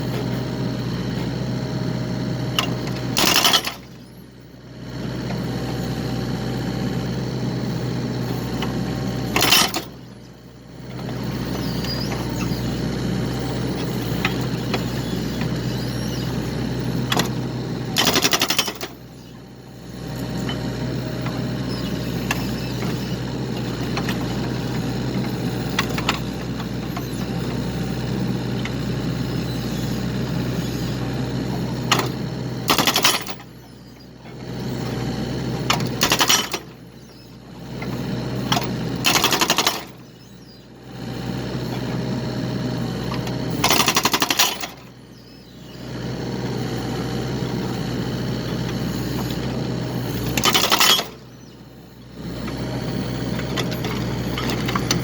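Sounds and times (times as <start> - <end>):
excavator running: 0.0 - 55.0.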